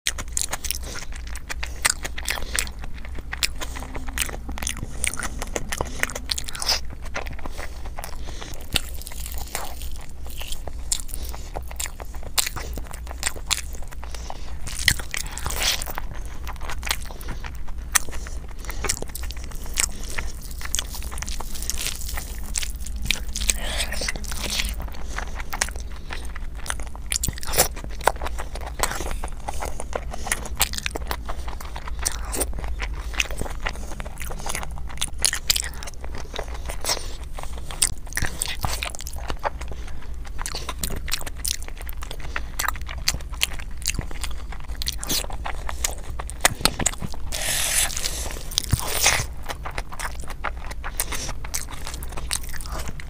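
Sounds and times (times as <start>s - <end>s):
fingers squelching through food: 0.1s - 53.0s
mouth chewing crunchy food: 0.1s - 53.0s
low hum: 0.2s - 53.0s.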